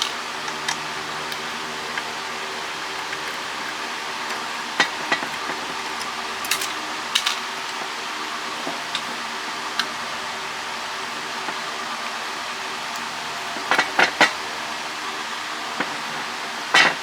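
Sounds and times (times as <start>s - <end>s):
steady fan-like hum: 0.0s - 17.0s.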